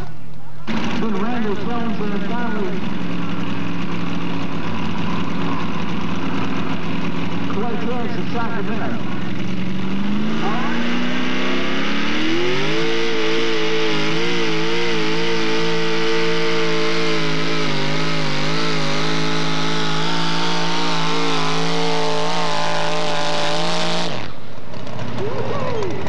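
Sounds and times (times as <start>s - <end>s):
truck engine revving under load: 0.0s - 26.0s.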